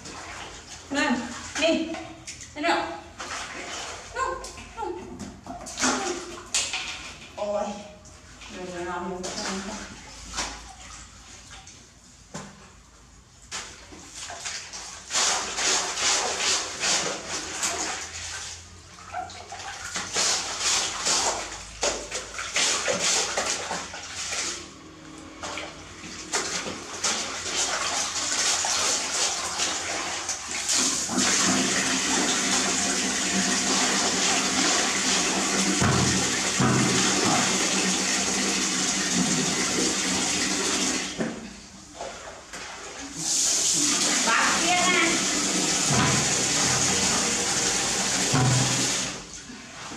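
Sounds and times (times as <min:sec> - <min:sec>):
water splashing and sloshing: 0:00.0 - 0:49.9.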